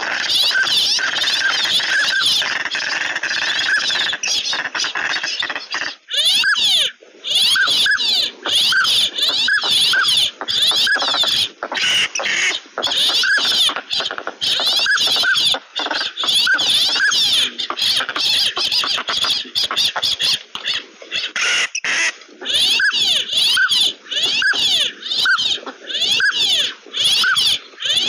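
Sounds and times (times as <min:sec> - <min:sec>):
ducks chattering: 0:00.0 - 0:28.0.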